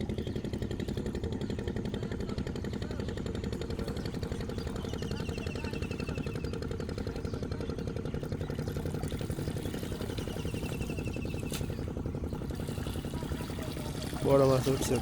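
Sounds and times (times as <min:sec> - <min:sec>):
engine knocking: 0:00.0 - 0:15.0.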